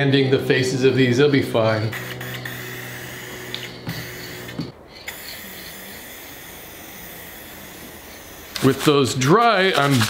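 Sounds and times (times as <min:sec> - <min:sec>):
aerosol can spraying: 0:01.9 - 0:10.0.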